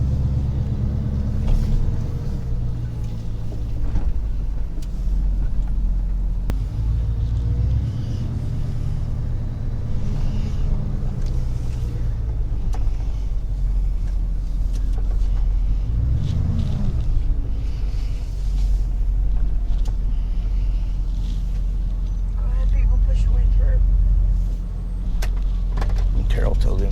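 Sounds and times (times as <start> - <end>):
tow truck engine driving: 0.0 - 26.9.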